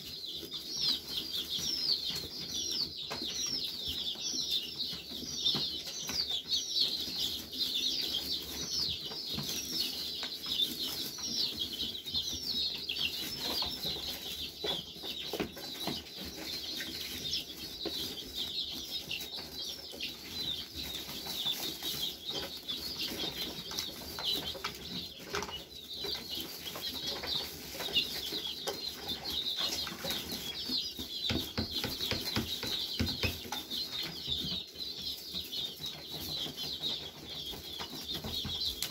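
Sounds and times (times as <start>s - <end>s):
chicks peeping: 0.0s - 38.9s
rustling and pecking in straw: 0.0s - 38.9s.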